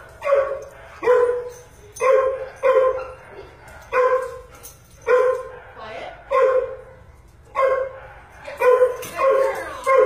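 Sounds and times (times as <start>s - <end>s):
dog barking: 0.2s - 6.9s, 7.5s - 10.0s.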